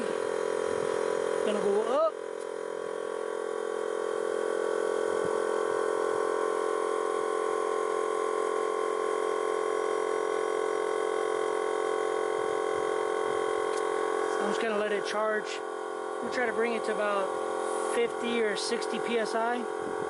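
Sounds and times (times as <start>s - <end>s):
air compressor droning: 0.0s - 20.0s.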